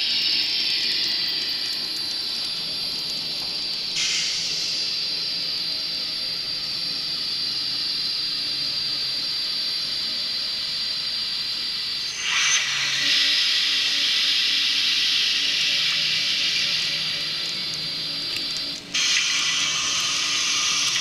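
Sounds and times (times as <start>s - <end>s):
model train whine and hiss: 0.0s - 21.0s.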